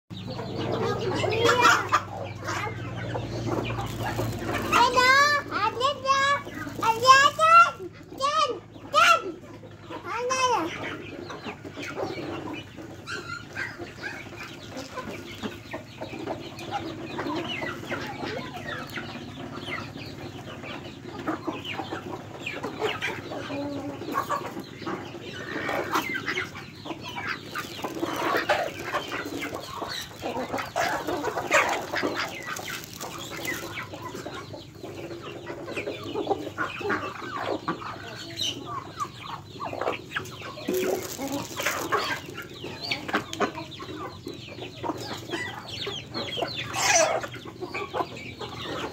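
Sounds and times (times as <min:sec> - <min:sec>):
hens clucking: 0:00.1 - 0:48.9
beaks pecking grain: 0:00.2 - 0:09.1, 0:10.2 - 0:48.9.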